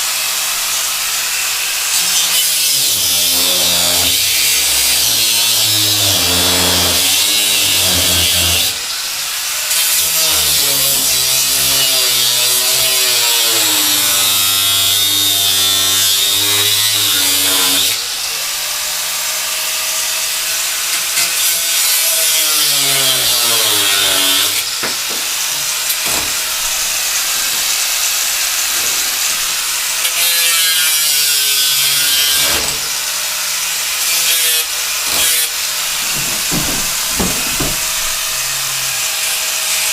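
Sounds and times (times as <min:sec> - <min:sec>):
electric power tool cutting: 0:00.8 - 0:18.0, 0:22.2 - 0:39.9.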